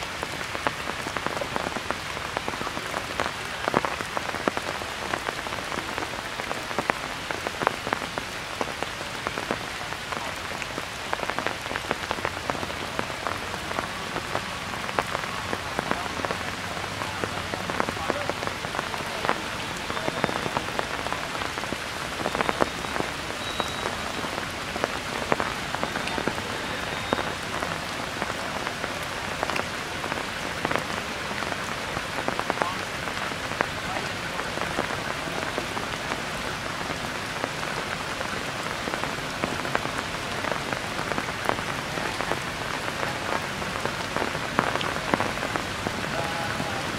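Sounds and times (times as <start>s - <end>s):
raindrops tapping: 0.0s - 46.9s
steady rain falling: 0.0s - 46.9s.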